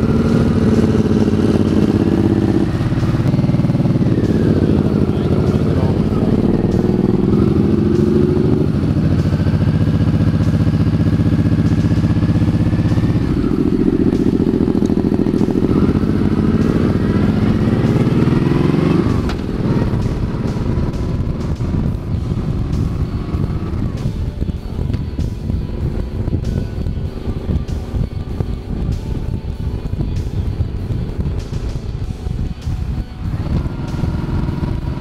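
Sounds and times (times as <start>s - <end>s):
motorcycle engine accelerating: 0.0s - 35.0s
wind noise on microphone: 0.0s - 35.0s.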